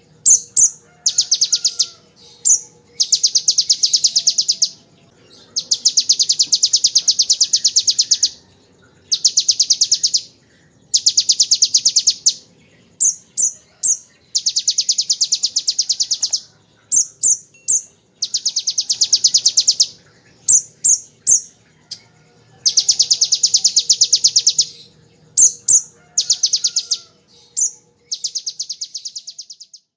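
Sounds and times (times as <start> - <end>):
bird singing rapid trills: 0.0 - 29.9.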